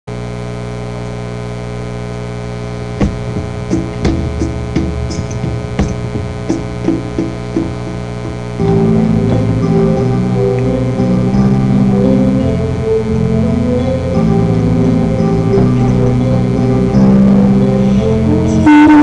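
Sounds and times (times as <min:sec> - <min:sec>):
mains hum: 0:00.1 - 0:19.0
backing track music: 0:02.9 - 0:19.0.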